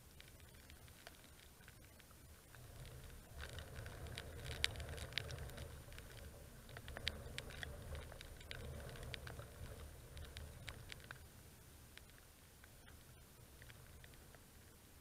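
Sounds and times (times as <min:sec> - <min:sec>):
raindrops ticking on camera: 0:00.0 - 0:15.0
wind rumbling on microphone: 0:00.0 - 0:15.0.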